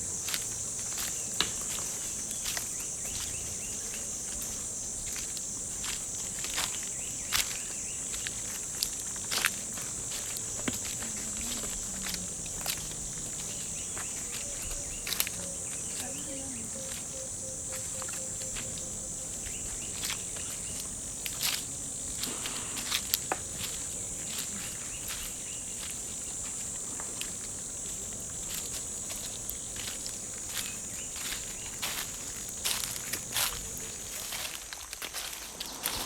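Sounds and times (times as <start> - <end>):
footsteps crunching: 0.0 - 36.0
insects droning: 0.0 - 36.0.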